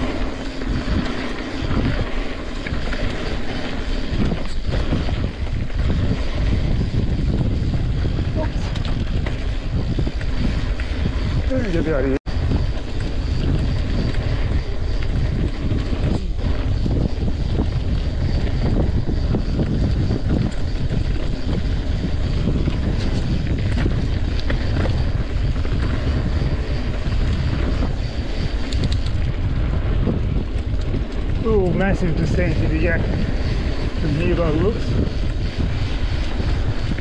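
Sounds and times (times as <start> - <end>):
bike clicks and rattles: 0.0 - 37.0
bike tyres rumbling on dirt: 0.0 - 37.0
wind on microphone: 0.0 - 37.0.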